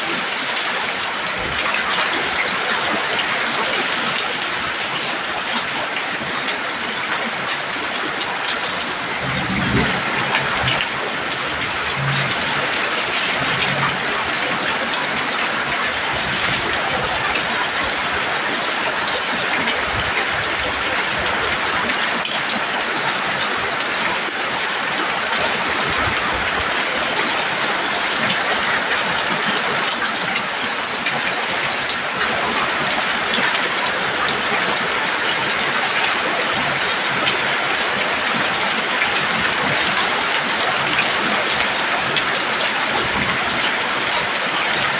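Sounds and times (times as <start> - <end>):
heavy rain on a roof: 0.0 - 44.9.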